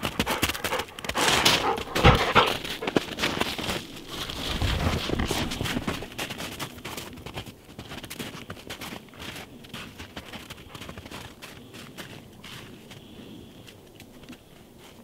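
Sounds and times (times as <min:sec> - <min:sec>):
dog footfalls crunching in snow: 0:00.0 - 0:15.0.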